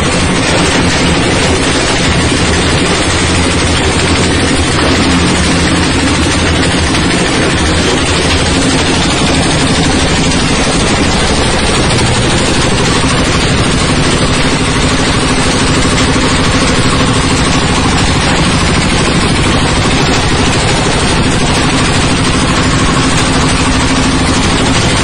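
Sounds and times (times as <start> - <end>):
low hum: 0.0 - 25.0
shredding machine clattering: 0.0 - 25.0.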